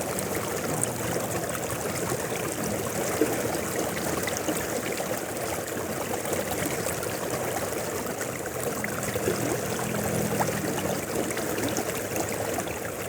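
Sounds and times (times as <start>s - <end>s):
river water rushing: 0.0s - 13.0s
small water splashes: 0.0s - 13.0s.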